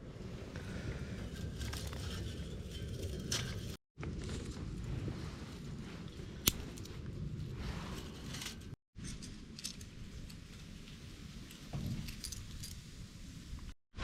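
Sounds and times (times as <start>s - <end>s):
low fire rumble: 0.0s - 13.8s.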